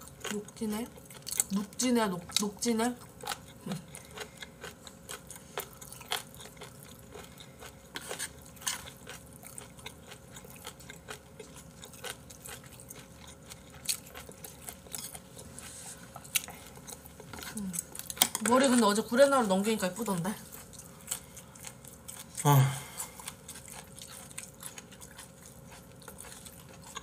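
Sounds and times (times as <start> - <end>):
person chewing food: 0.0 - 1.6, 2.2 - 18.9, 20.4 - 27.0.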